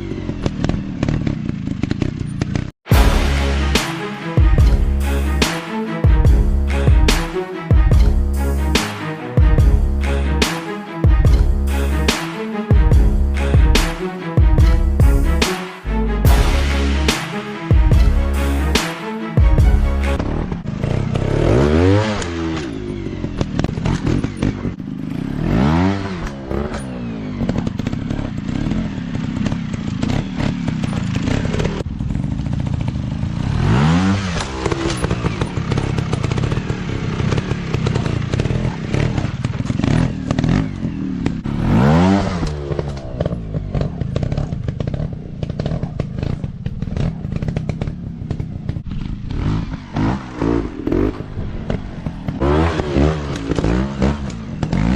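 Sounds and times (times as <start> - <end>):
dirt bike engine revving: 0.0 - 19.0, 19.8 - 54.9.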